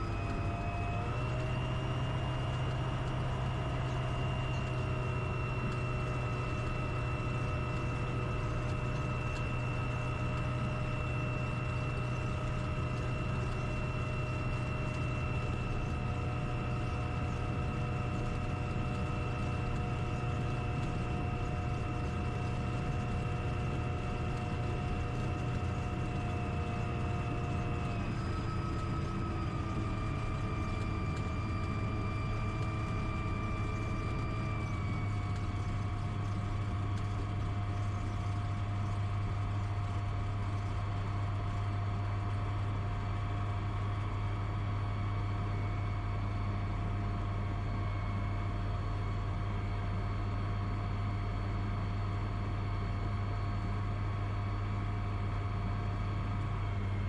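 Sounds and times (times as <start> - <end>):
faint whining tones: 0.0 - 57.0
light aircraft engine droning: 0.0 - 57.0.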